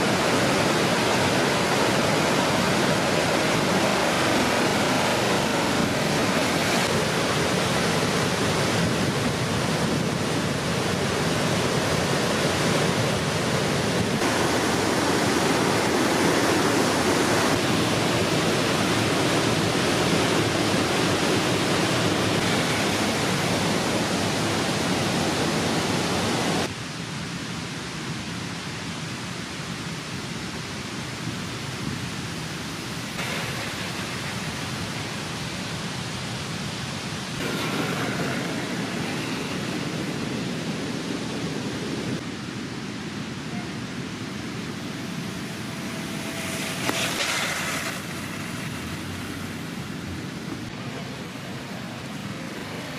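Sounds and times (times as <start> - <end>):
river water rushing over rocks: 0.0 - 52.9.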